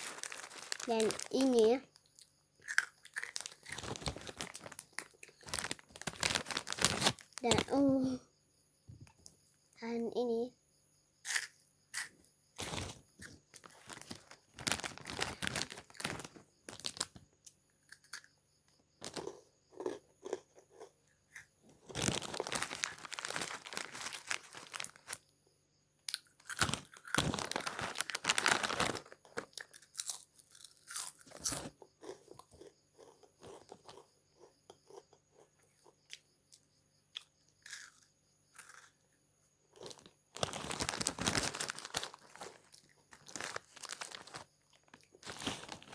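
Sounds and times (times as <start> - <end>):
crunchy snack being chewed: 0.0 - 7.8, 11.2 - 18.4, 19.0 - 25.3, 26.0 - 39.0, 39.7 - 45.9.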